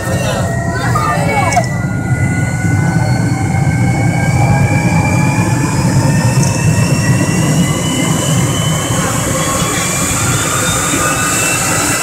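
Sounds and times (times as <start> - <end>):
jet turbine engine roaring: 0.0 - 12.0.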